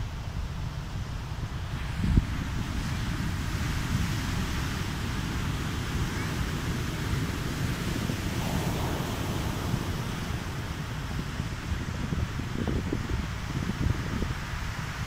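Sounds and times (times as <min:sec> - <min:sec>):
wind rumble on microphone: 0:00.0 - 0:15.0
waves breaking on beach: 0:01.7 - 0:15.0.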